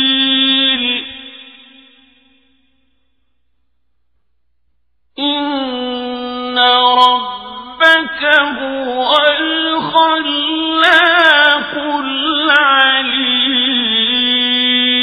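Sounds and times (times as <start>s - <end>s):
man chanting: 0.0s - 2.3s, 5.2s - 15.0s.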